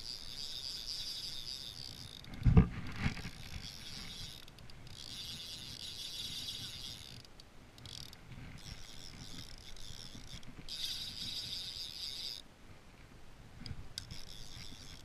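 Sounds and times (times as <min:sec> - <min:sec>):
fishing reel ratchet buzzing: 0:00.0 - 0:02.4, 0:03.1 - 0:12.4, 0:14.0 - 0:15.0.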